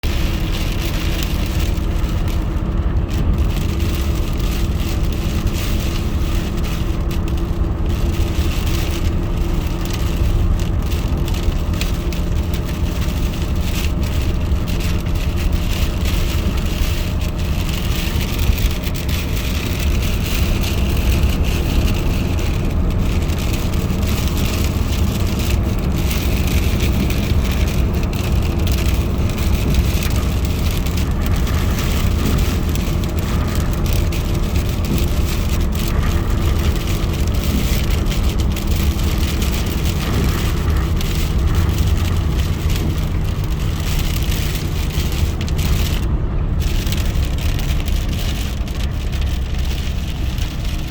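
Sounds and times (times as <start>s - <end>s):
car cabin road rumble: 0.0s - 50.9s.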